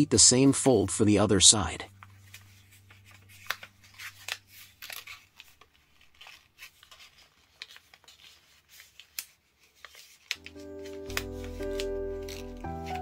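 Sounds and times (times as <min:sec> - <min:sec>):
paper crinkling and rustling: 0:01.9 - 0:13.0.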